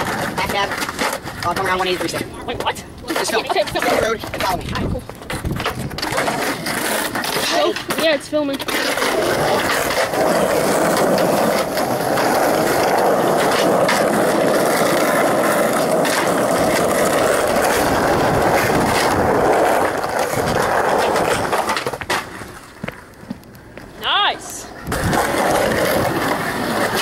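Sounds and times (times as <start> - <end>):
skateboard clacks: 0.0 - 27.0
skateboard wheels rolling on asphalt: 0.0 - 27.0.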